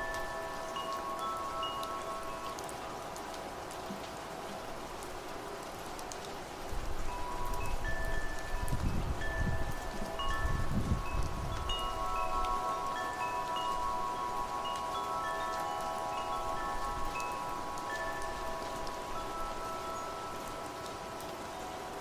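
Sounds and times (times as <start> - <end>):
wind chimes ringing: 0.0 - 3.6, 7.0 - 22.0
low wind gusts: 0.0 - 22.0
rain hiss: 0.0 - 22.0.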